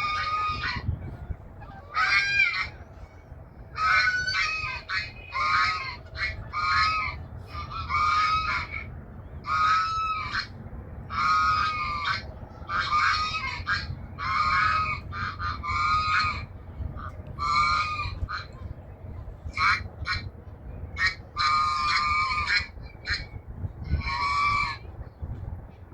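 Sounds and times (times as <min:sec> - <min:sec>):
geese honking: 0:00.0 - 0:24.9.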